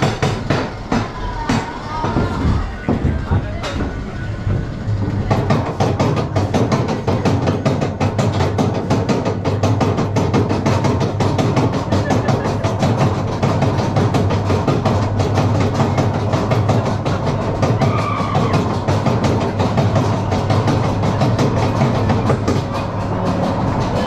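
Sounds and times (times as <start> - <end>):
roller coaster lift clicking: 0.0 - 24.0.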